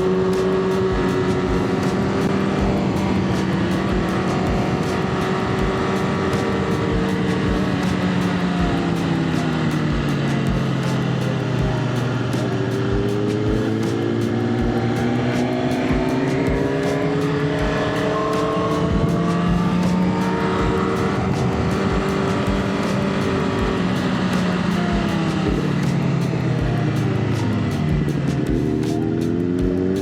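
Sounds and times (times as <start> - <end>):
motorcycle engine at speed: 0.0 - 30.0.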